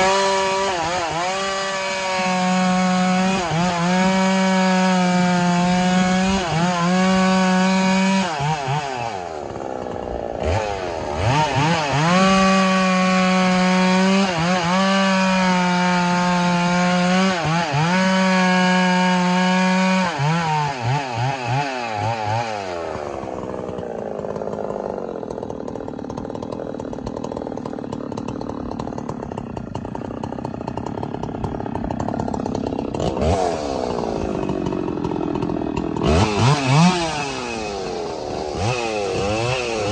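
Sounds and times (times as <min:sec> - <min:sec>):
chainsaw cutting firewood: 0:00.0 - 0:39.9.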